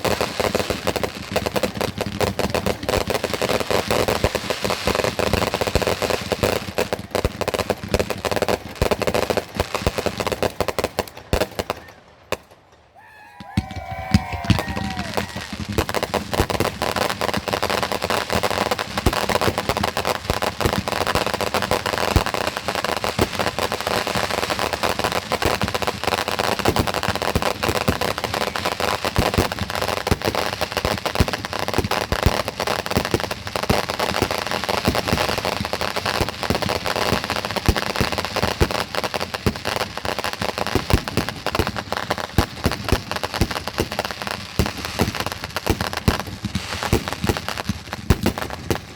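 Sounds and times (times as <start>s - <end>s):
fireworks bangs: 0.0s - 48.9s
fireworks crackling and popping: 0.0s - 48.9s.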